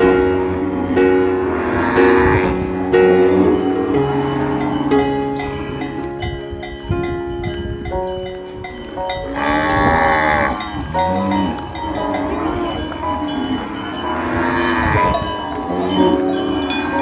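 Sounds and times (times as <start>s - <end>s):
cows mooing: 0.0s - 6.2s, 9.3s - 17.0s
steady ringing tones: 0.0s - 17.0s.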